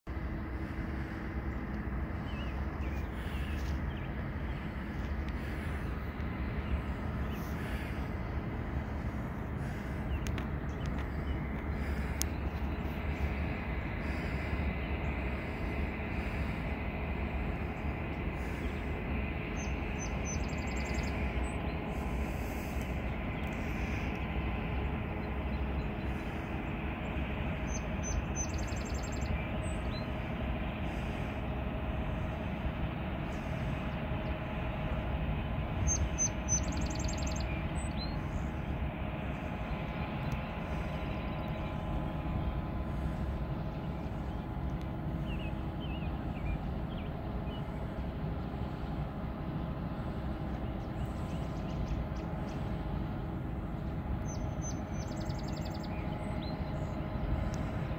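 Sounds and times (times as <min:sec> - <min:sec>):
diesel engines droning: 0:00.0 - 0:57.9.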